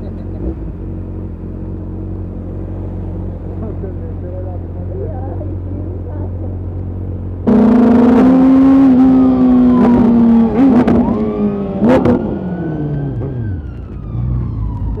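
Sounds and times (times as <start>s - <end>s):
vehicle engine revving: 0.0s - 14.8s.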